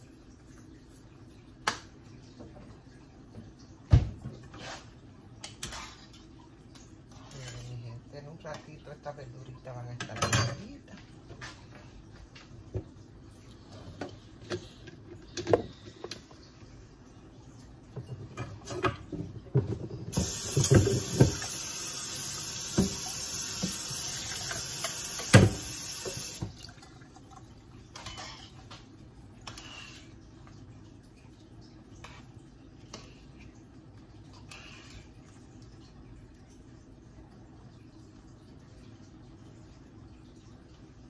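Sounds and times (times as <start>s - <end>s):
running water: 0.0s - 41.0s.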